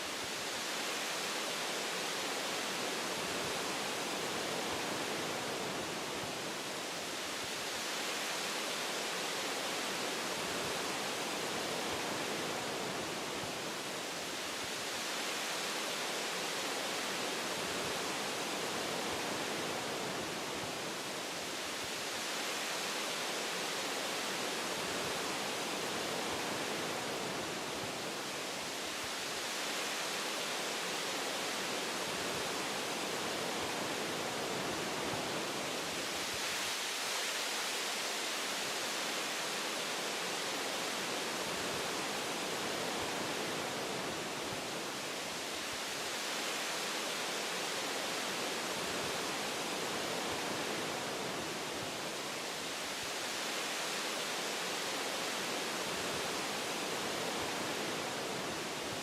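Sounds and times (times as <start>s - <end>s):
wind blowing through tree branches: 0.0s - 59.0s.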